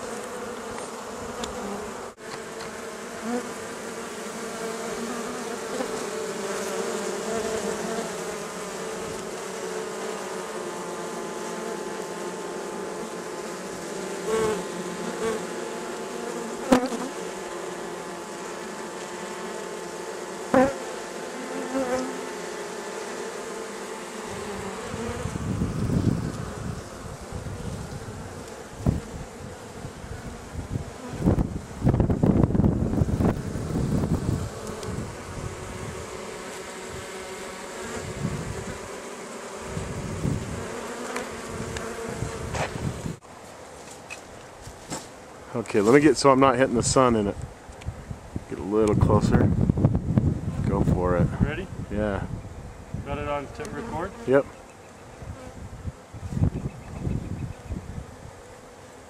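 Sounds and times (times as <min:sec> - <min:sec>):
bees buzzing: 0:00.0 - 0:48.4, 0:51.7 - 0:59.0.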